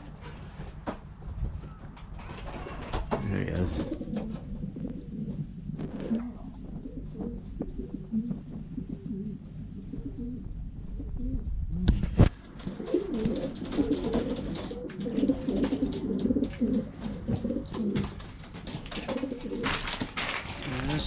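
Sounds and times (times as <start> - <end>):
pigeons cooing: 1.5 - 21.0.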